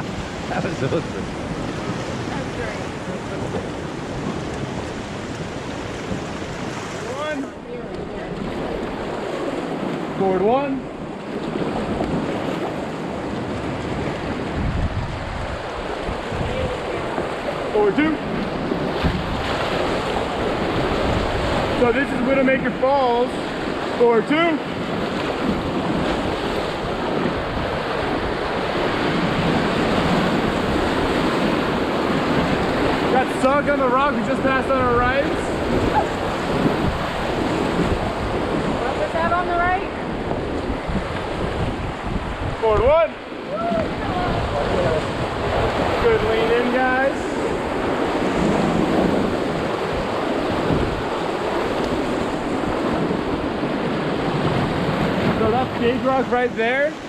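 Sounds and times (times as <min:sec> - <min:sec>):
churning water rushing: 0:00.0 - 0:57.0
wind buffeting microphone: 0:00.0 - 0:57.0.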